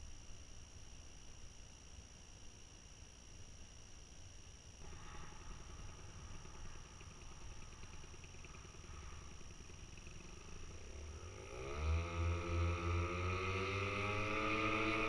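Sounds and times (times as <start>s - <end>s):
faint distant paramotor engine: 2.9s - 15.0s.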